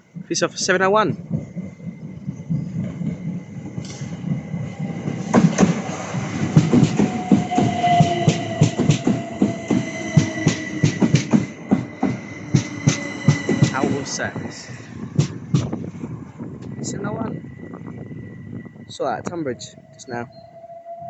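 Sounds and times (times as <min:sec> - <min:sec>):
train wheels clattering over rails: 0:00.0 - 0:17.3.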